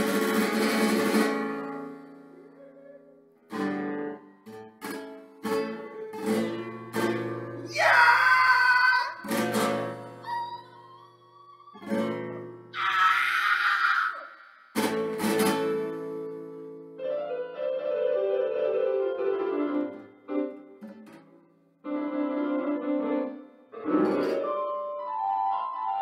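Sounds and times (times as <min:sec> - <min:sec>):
classical guitar playing: 0:00.0 - 0:07.7, 0:09.2 - 0:12.7, 0:14.8 - 0:25.5.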